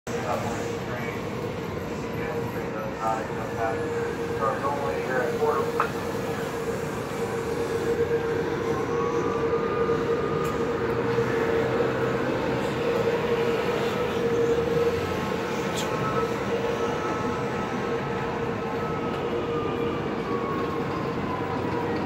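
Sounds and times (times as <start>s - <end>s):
electric train pulling out: 0.1s - 22.0s.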